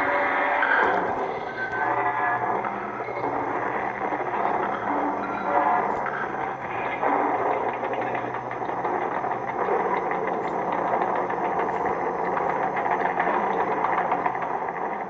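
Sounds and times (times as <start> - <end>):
mechanical clattering and rumbling: 0.0 - 15.0
fine rapid ticking: 1.2 - 15.0.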